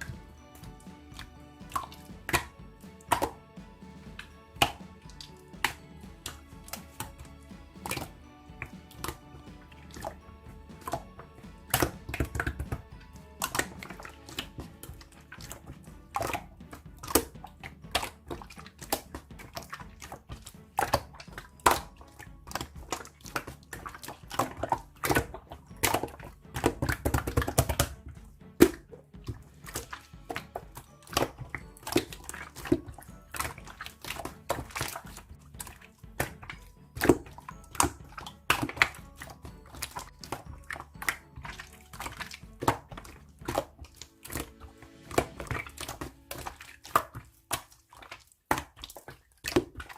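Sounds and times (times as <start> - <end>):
quiet background music: 0.0 - 49.9
slime squishing: 0.0 - 49.9.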